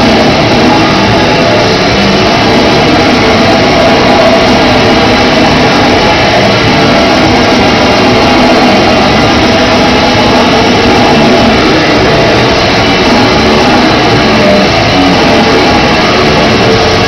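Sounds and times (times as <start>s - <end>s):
black metal band playing live: 0.0s - 17.0s
distorted guitars: 0.0s - 17.0s
pounding drums: 0.0s - 17.0s.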